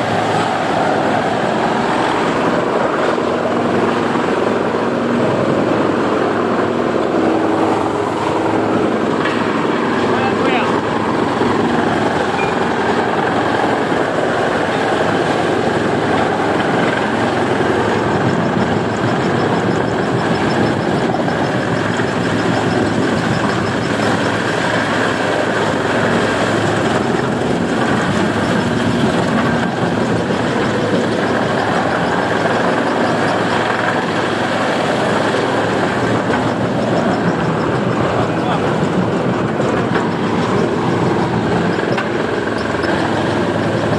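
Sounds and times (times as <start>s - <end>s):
wood chipper running: 0.0s - 43.9s.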